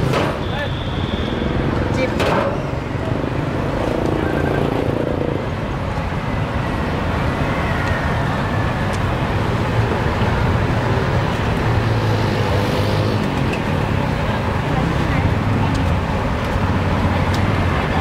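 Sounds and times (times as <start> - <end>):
busy street market rumble: 0.0 - 18.0.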